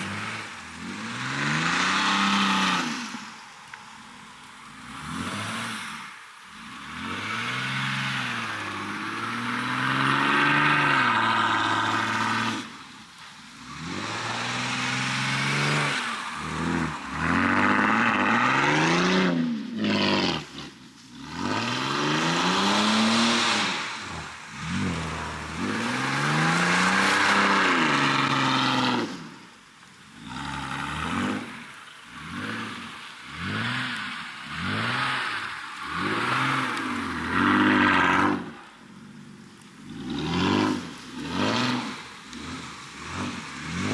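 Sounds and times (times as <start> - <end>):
car engine revving: 0.0 - 29.5, 30.1 - 43.9.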